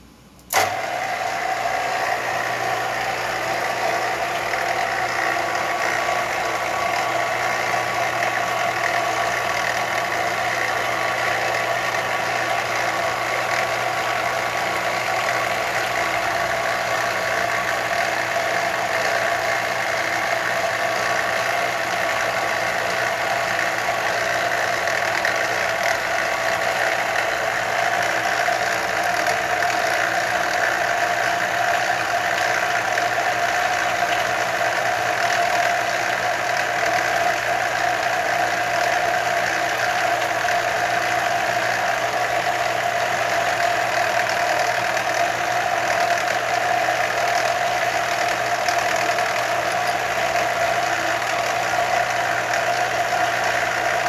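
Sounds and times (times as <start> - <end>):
mill drill motor whining: 0.0 - 54.0.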